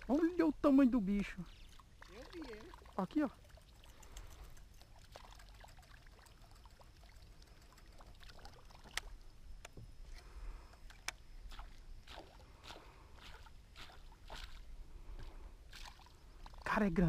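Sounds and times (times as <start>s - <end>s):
water lapping against kayak hull: 1.5s - 9.2s, 9.8s - 16.7s.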